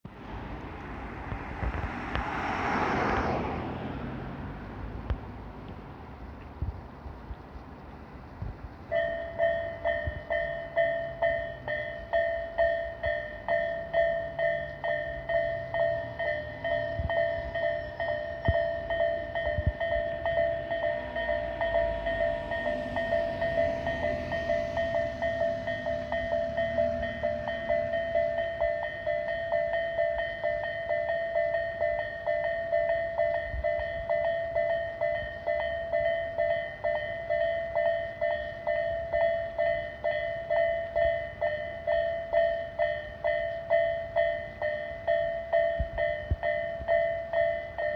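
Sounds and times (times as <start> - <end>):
level crossing warning bell: 8.9 - 47.9.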